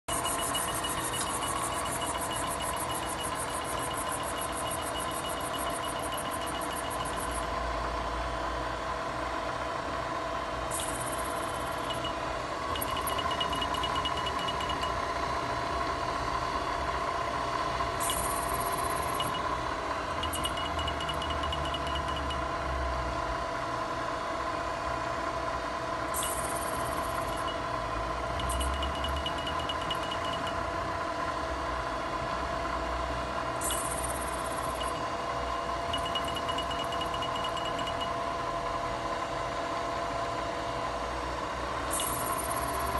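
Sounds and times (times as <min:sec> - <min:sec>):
milling machine humming: 0:00.0 - 0:42.9.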